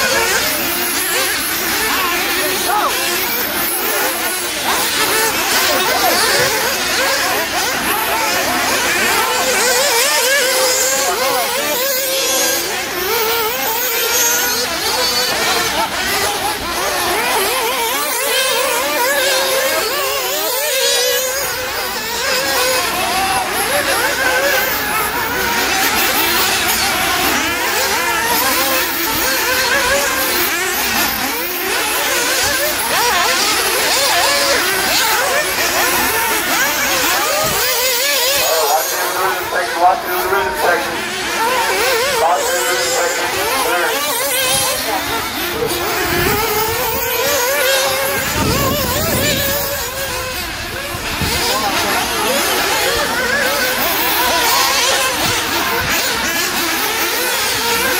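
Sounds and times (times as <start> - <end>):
rc car engines revving: 0.0 - 57.9.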